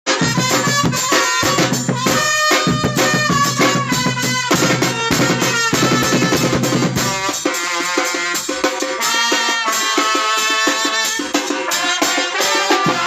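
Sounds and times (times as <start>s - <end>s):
music with busy drums: 0.0s - 13.0s.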